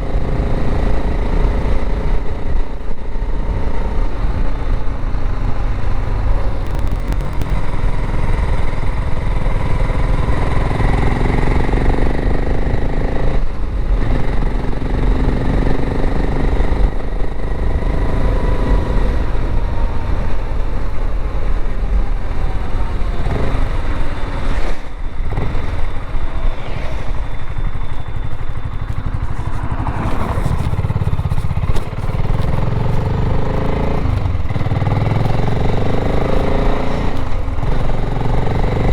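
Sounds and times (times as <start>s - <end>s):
motorcycle engine accelerating: 0.0s - 38.9s
wind rumble on microphone: 0.0s - 38.9s.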